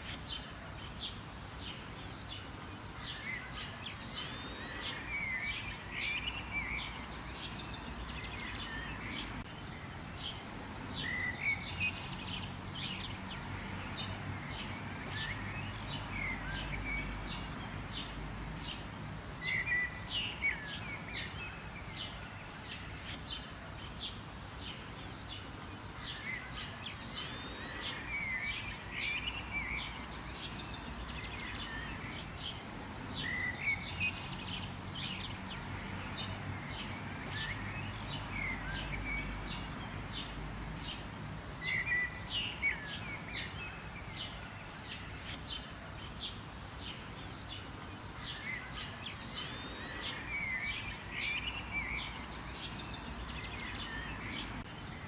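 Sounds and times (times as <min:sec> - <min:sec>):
birds chirping: 0:00.0 - 0:55.0
low background noise: 0:00.0 - 0:55.0.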